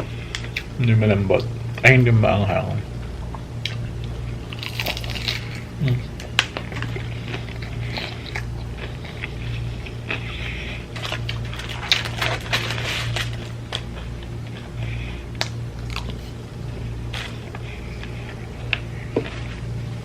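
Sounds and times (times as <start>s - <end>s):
low hum: 0.0s - 20.0s
person chewing food: 3.2s - 20.0s.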